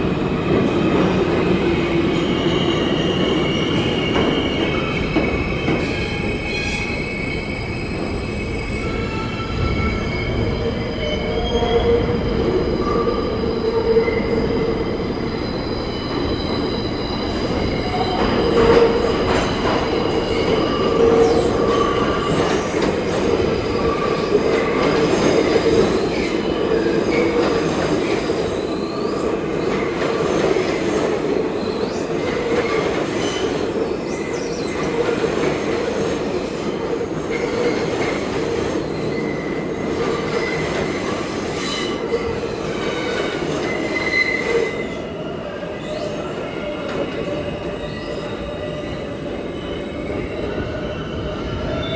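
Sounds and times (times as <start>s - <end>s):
subway train rumble: 0.0s - 51.9s
train wheels squealing: 0.1s - 51.9s.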